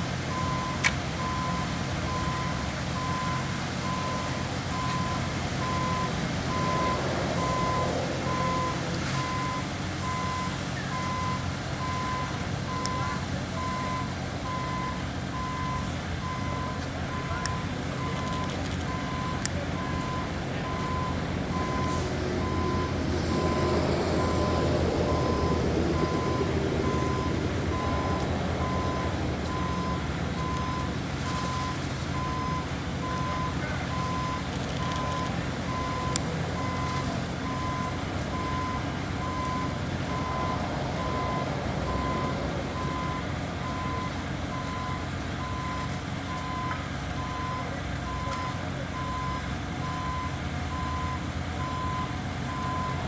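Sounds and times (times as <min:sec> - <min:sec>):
truck engine humming: 0:00.0 - 0:53.0
reversing alarm beeping: 0:00.3 - 0:53.0.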